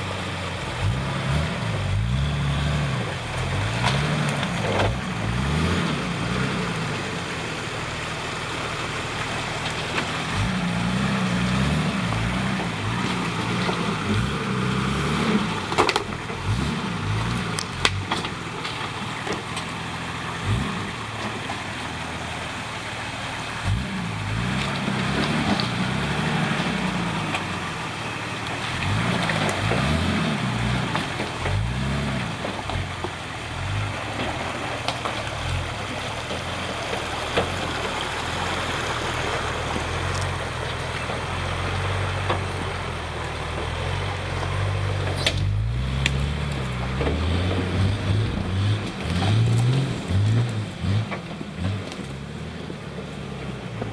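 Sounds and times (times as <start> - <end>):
diesel engine revving: 0.0 - 53.9.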